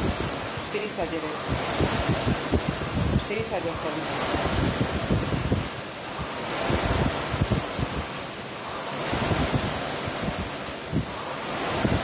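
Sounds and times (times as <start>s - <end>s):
rowing machine flywheel whooshing: 0.0s - 12.0s.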